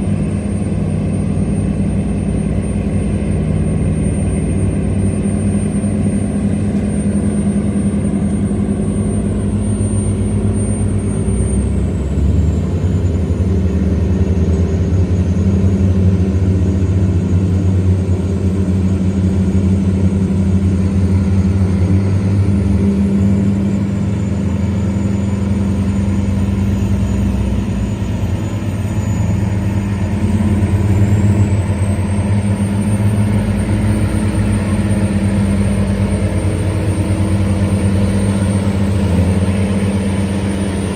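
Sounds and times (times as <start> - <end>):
boat diesel engine running: 0.0 - 40.9.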